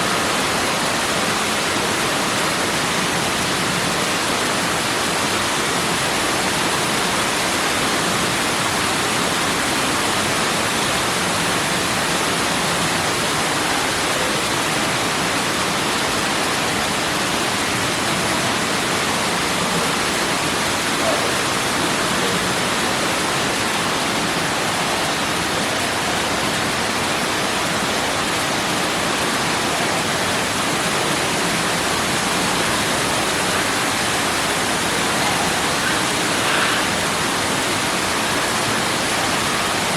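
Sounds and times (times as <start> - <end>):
waterfall pouring into pool: 0.0 - 39.9.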